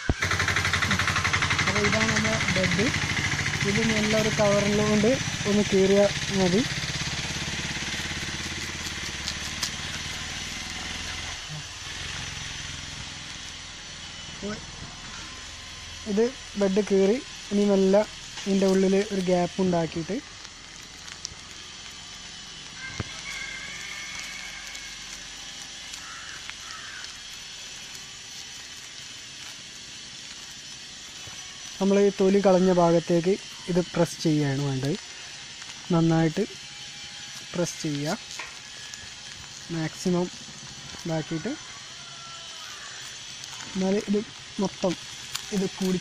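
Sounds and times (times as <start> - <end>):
engine idling: 0.0 - 46.0
plastic cover crinkling: 0.1 - 46.0
knife slitting plastic wrap: 0.7 - 46.0.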